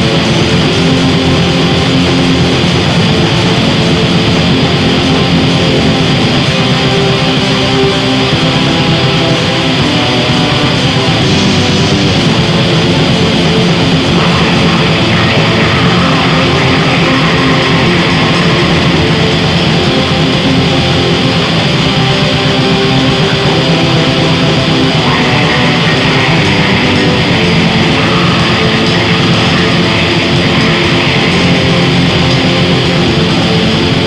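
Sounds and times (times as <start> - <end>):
black metal with distorted guitar: 0.0 - 34.0.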